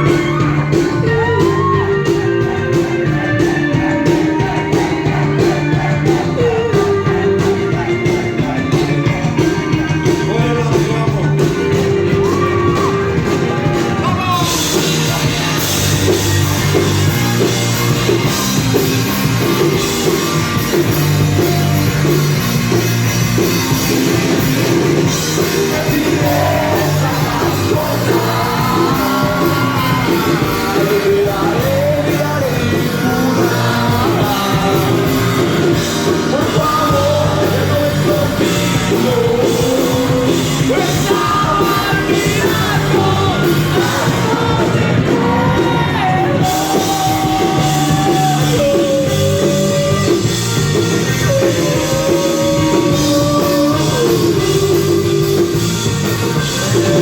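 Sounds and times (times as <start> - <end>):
person singing: 0.0 - 18.8, 24.6 - 57.0
rock band playing live: 0.0 - 57.0.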